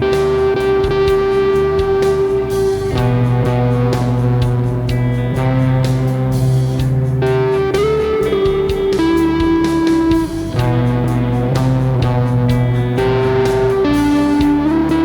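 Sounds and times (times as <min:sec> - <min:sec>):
electric guitar lead lines: 0:00.0 - 0:15.0
rock backing track drums and bass: 0:00.0 - 0:15.0.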